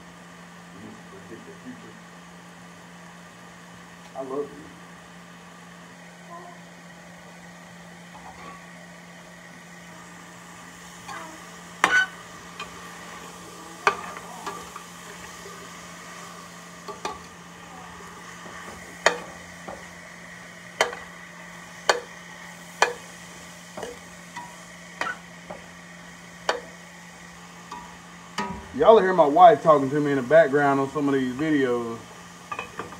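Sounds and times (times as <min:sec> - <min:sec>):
faint sizzle: 0:00.0 - 0:32.9.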